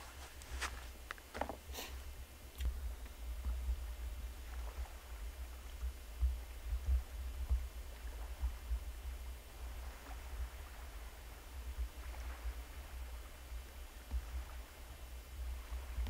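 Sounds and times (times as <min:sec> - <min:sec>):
wind buffeting microphone: 0:02.2 - 0:16.0.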